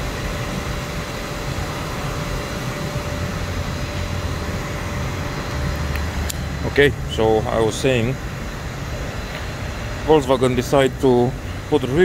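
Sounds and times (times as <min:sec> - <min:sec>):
faint steady whine: 0:00.0 - 0:12.0
fan machine humming: 0:00.0 - 0:12.0.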